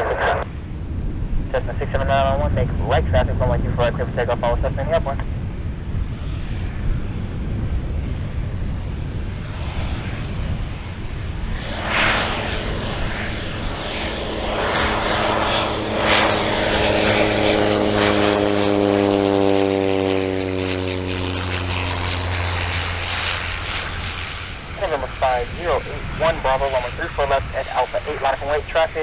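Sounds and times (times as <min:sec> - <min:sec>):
propeller aircraft engine droning: 0:00.0 - 0:29.0.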